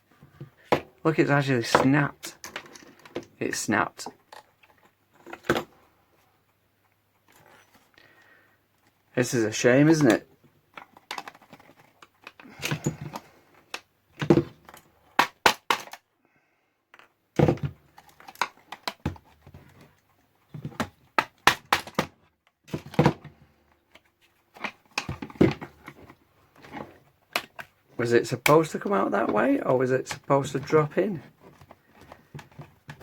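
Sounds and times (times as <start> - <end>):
plastic parts clicking and knocking: 0.2 - 1.0, 1.6 - 3.4, 4.0 - 5.8, 9.8 - 16.1, 16.9 - 33.0.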